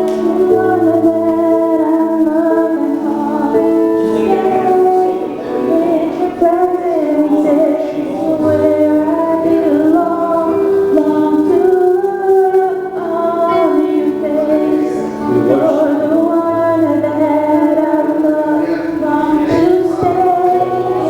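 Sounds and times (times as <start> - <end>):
sustained keyboard chords: 0.0 - 21.0
woman singing: 0.0 - 21.0.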